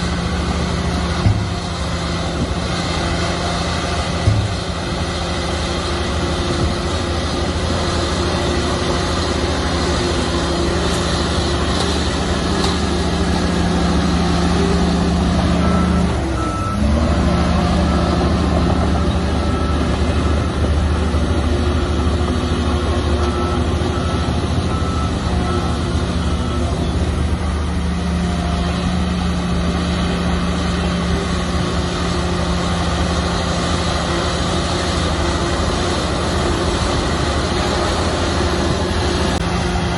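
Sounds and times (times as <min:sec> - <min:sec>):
diesel machinery engine drone: 0:00.0 - 0:39.9
reversing alarm beeping: 0:00.1 - 0:39.4.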